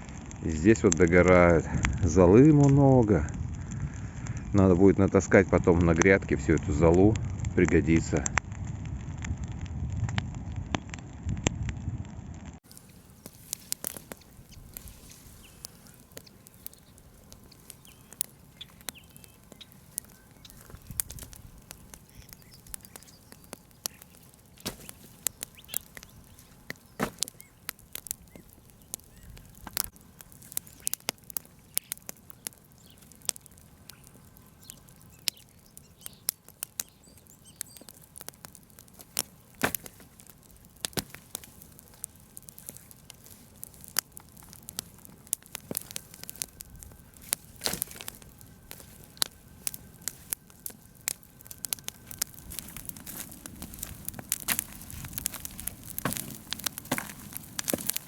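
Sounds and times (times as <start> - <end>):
bonfire crackling and popping: 0.0 - 58.0.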